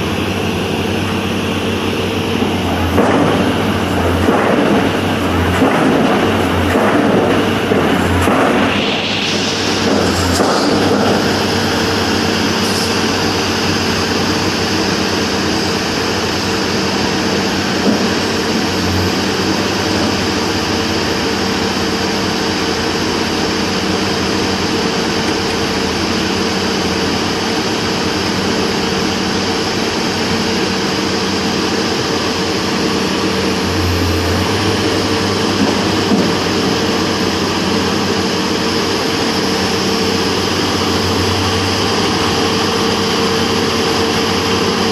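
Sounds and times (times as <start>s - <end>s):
heavy diesel engine humming: 0.0s - 44.9s.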